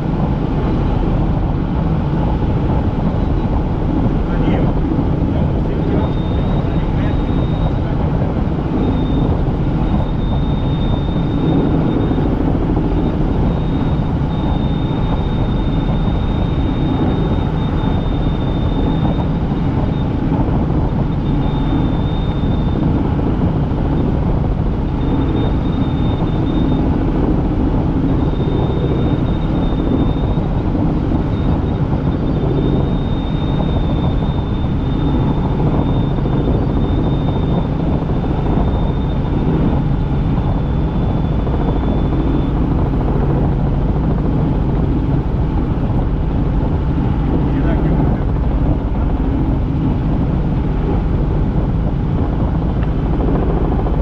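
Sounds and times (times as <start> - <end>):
helicopter rotor and engine: 0.0 - 54.0
thin high whine: 0.0 - 54.0.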